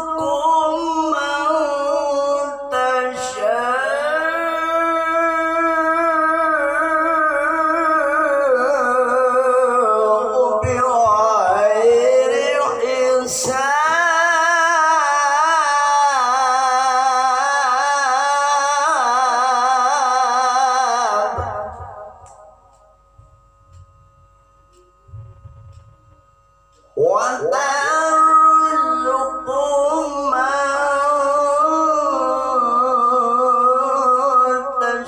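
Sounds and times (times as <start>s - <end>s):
man reciting melodically: 0.0s - 22.9s, 26.7s - 35.0s.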